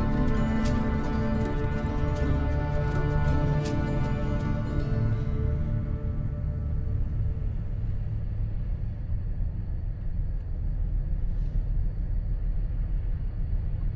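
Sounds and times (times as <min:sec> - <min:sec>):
car engine rumble: 0:00.0 - 0:13.9
road noise: 0:00.0 - 0:13.9.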